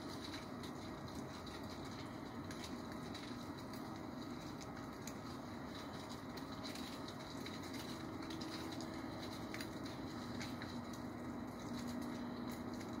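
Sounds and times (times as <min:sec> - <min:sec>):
dry leaves pattering: 0:00.0 - 0:13.0
steady low hum: 0:00.0 - 0:13.0.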